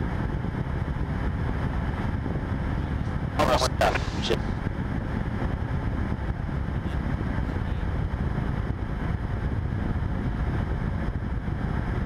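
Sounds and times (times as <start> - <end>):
light aircraft engine drone: 0.0 - 12.0.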